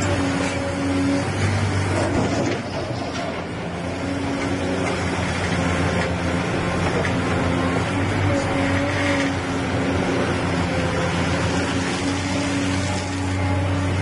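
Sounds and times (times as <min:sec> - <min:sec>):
excavator diesel engine humming: 0:00.0 - 0:14.0.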